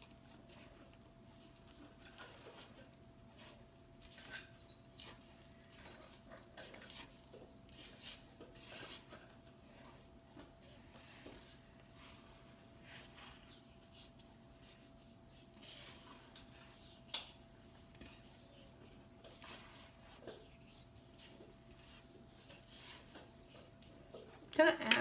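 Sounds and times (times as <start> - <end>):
wooden spatula stirring dough: 0.0 - 4.6, 5.2 - 25.0.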